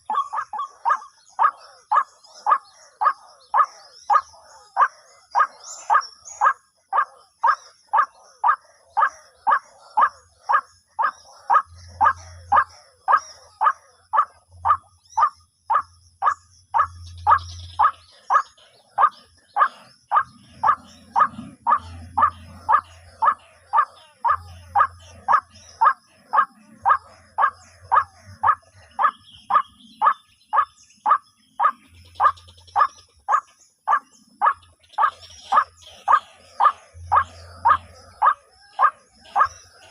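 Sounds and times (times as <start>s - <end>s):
bird calling repeated note: 0.0s - 39.9s.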